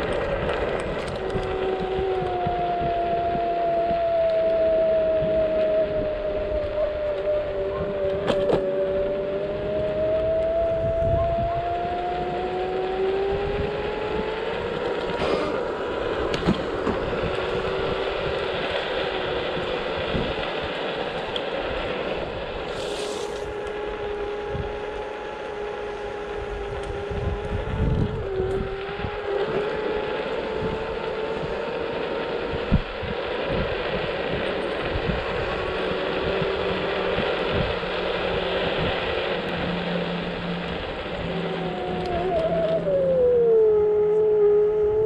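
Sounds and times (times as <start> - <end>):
scooter engine whine: 0.0 - 45.0
wind buffeting microphone: 0.0 - 45.0.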